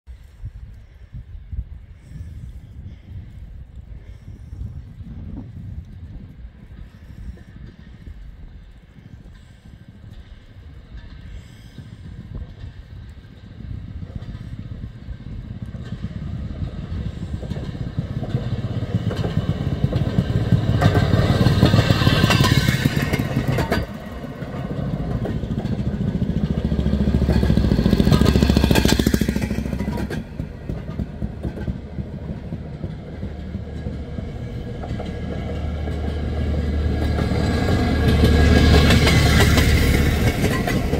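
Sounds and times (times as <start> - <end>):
rail motorcars puttering past: 6.0 - 40.9.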